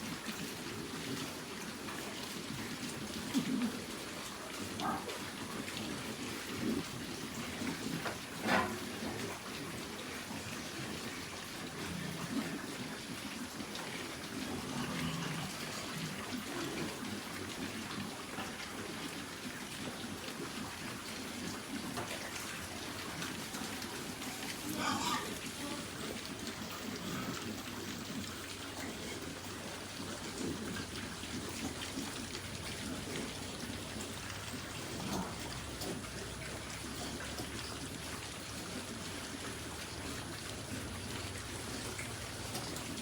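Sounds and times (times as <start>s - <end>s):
steady water noise: 0.0s - 43.0s.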